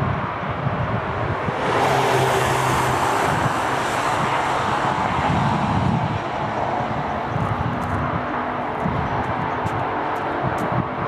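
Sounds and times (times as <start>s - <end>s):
sports car engine running hard: 0.0s - 11.0s.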